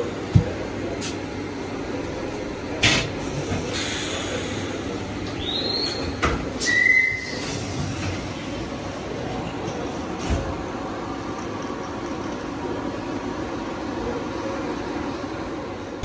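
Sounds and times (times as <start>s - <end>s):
train hum: 0.0s - 16.0s.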